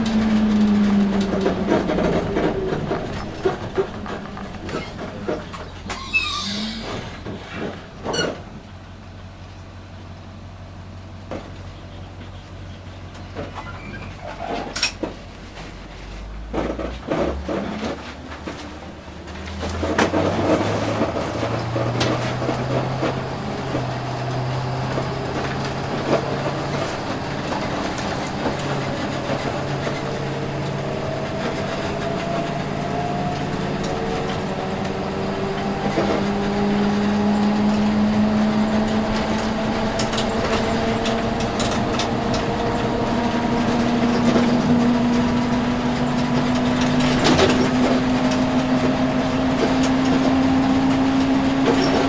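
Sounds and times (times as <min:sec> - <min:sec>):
bus engine revving: 0:00.0 - 0:09.4, 0:13.1 - 0:52.0
bus body rattling: 0:00.0 - 0:52.0.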